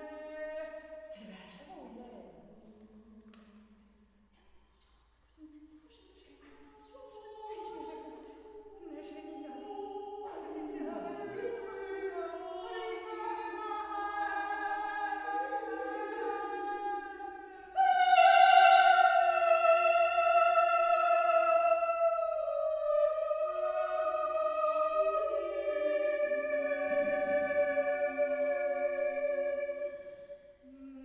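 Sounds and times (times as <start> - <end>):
women singing a cappella: 0.0 - 4.4, 5.4 - 31.0.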